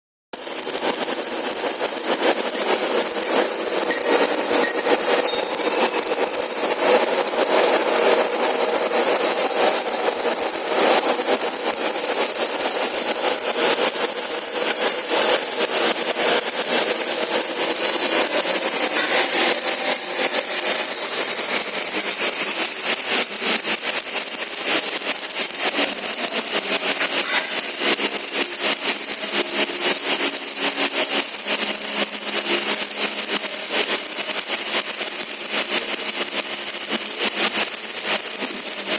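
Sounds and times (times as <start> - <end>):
welding arc crackling hiss: 0.4 - 38.9.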